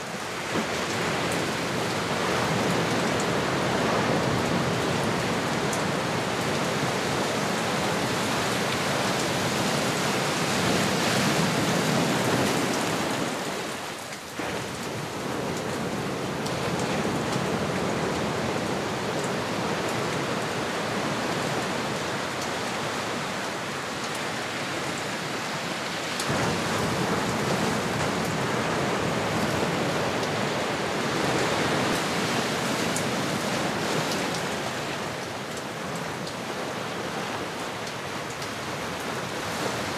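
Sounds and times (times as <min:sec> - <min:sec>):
ocean waves washing: 0:00.0 - 0:39.9.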